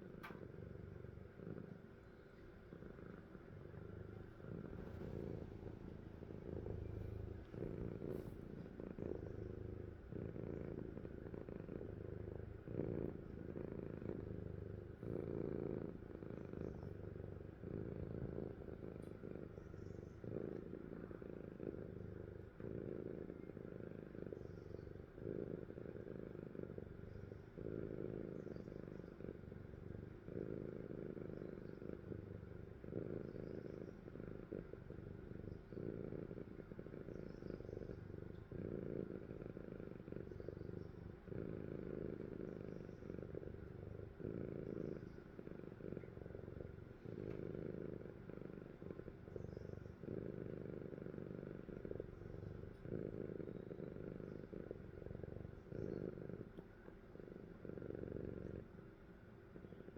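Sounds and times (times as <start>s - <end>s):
cat snoring: 0.0s - 59.9s.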